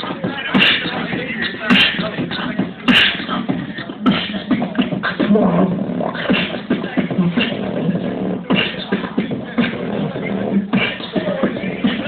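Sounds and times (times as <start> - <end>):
beatboxing through amplifier: 0.0 - 12.0.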